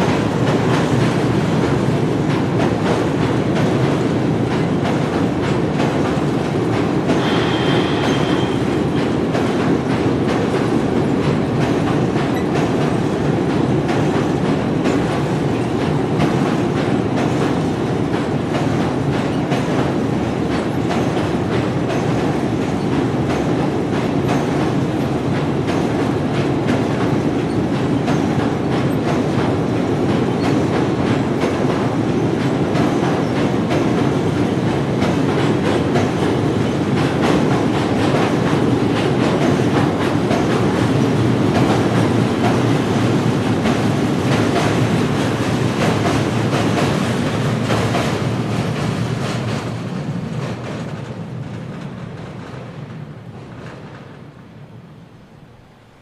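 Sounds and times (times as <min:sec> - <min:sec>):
wheels clacking over rail joints: 0:00.0 - 0:54.4
train rumbling on rails: 0:00.0 - 0:56.0.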